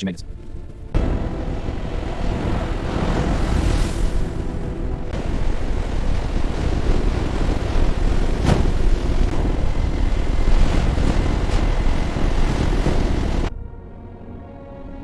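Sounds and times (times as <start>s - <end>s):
train rumbling: 0.0s - 14.9s.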